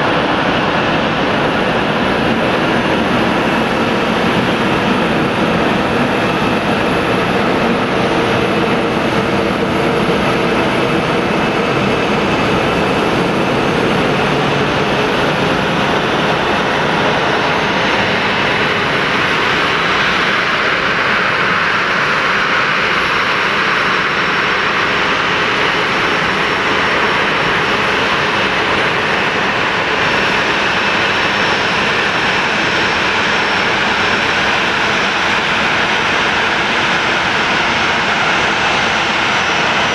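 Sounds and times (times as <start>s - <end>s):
jet engine roar and whine: 0.0s - 39.9s.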